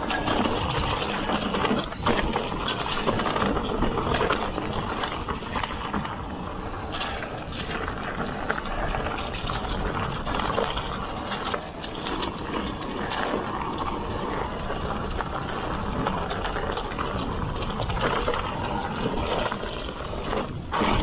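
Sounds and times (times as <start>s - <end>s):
bike clicks and rattles: 0.0s - 21.0s
bike tyres rolling over leaves: 0.0s - 21.0s
wind rumble on microphone: 0.0s - 21.0s.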